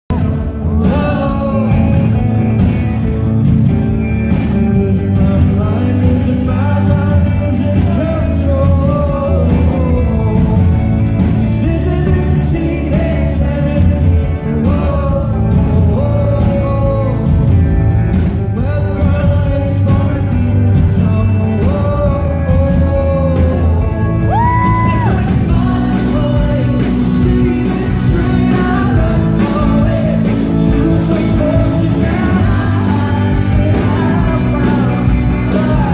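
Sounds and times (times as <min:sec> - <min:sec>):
man singing: 0:00.0 - 0:35.9
live band playing: 0:00.1 - 0:35.9.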